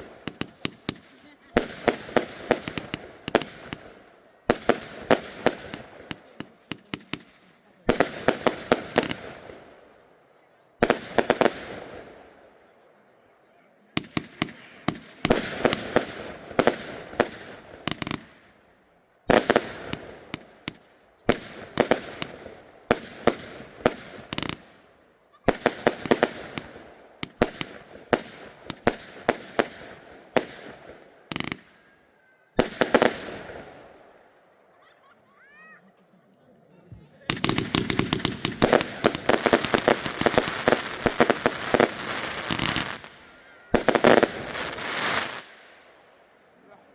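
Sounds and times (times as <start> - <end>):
firework bangs: 0.0 - 10.0, 10.8 - 12.4, 14.0 - 18.7, 19.3 - 31.9, 32.6 - 34.3, 37.3 - 46.0
firework crackling: 0.0 - 10.0, 10.8 - 12.4, 14.0 - 32.0, 32.6 - 34.4, 37.3 - 46.0.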